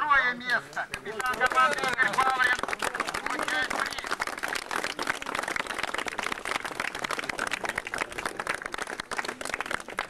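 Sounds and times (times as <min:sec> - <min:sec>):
small crowd applauding: 0:00.7 - 0:10.0.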